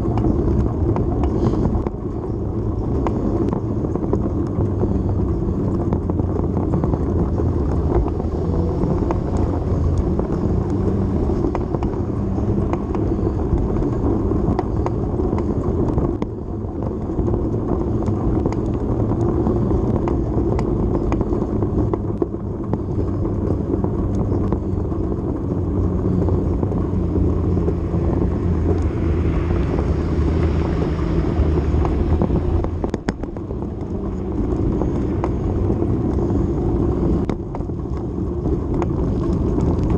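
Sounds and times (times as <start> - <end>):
low drone: 0.0 - 39.9
wheel and wind noise: 0.0 - 39.9.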